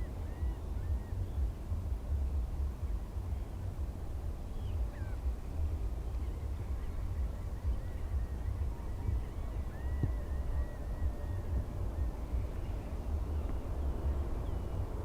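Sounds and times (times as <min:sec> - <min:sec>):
faint bird calls: 0:00.0 - 0:15.0
steady low rumble: 0:00.0 - 0:15.0.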